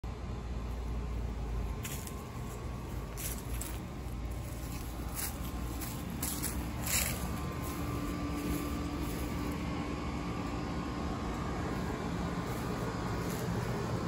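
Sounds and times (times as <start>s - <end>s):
soft crunchy footsteps: 0.7s - 14.0s.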